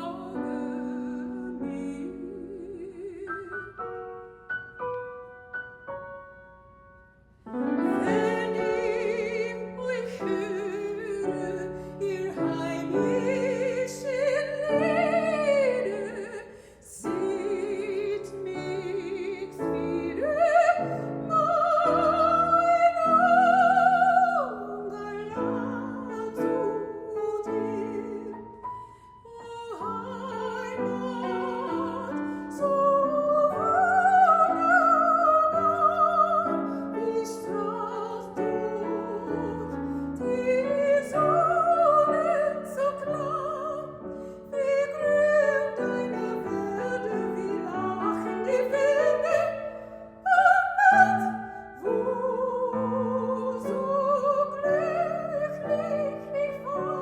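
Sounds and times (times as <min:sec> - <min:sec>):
operatic soprano singing: 0:00.0 - 0:04.2, 0:07.5 - 0:57.0
piano accompaniment: 0:00.0 - 0:57.0.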